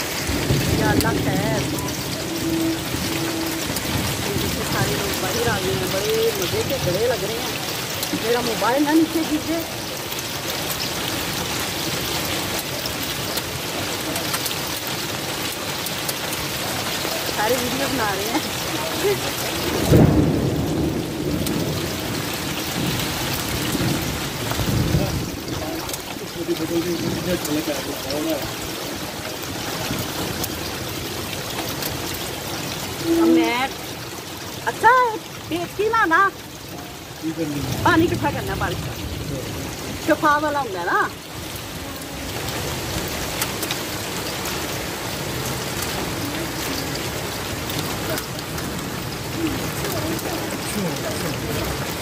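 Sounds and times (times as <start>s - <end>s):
rain and hail on tin roof: 0.0s - 52.0s
thunder rumble: 0.0s - 52.0s.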